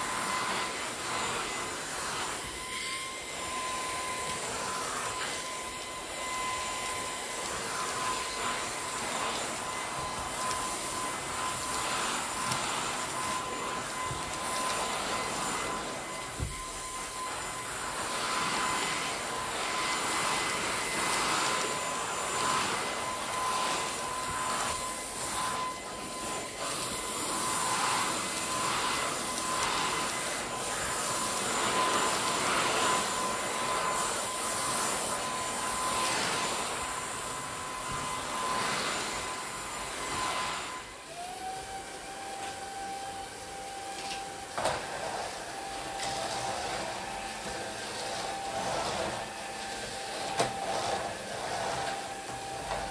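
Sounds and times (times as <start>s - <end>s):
stick vacuum cleaner running: 0.0s - 52.9s.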